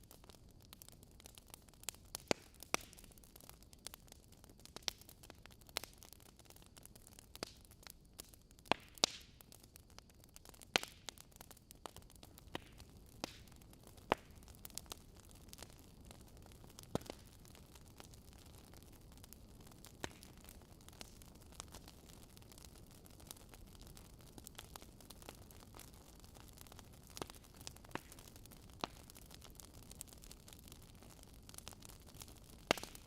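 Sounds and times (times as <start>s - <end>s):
faint steady hiss: 0.0s - 33.0s
log fire crackling: 0.0s - 33.0s.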